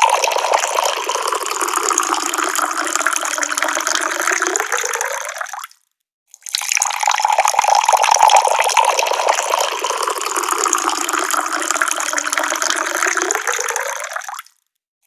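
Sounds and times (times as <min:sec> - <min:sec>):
water pouring from a tap: 0:00.0 - 0:05.8, 0:06.4 - 0:14.6.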